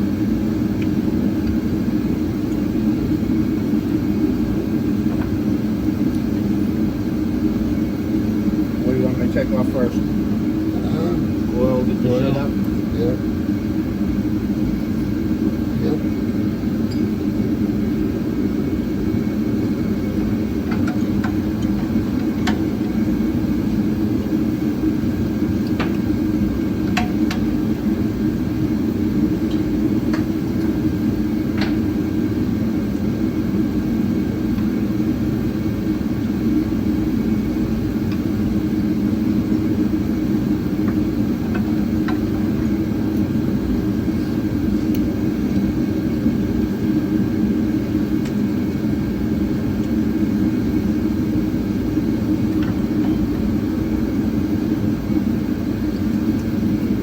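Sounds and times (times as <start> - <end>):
steady mechanical whir: 0.0 - 57.0.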